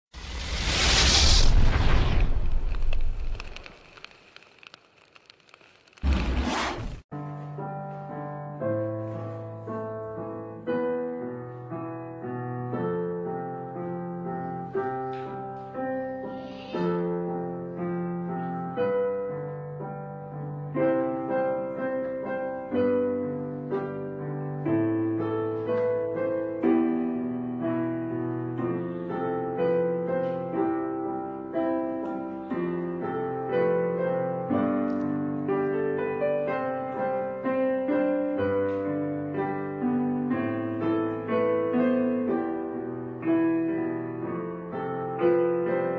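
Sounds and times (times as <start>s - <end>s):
slow piano music: 7.1s - 45.9s.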